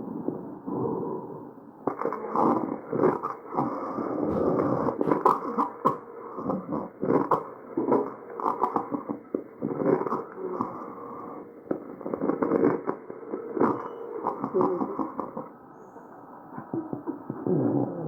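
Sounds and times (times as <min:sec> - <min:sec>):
noisy breaths: 0:00.1 - 0:18.0.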